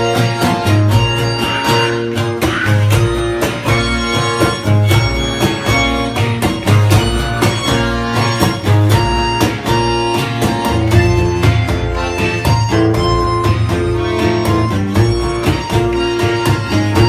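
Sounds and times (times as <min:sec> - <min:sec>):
instrumental guitar music: 0:00.0 - 0:17.0
steady bass beats: 0:00.0 - 0:17.0.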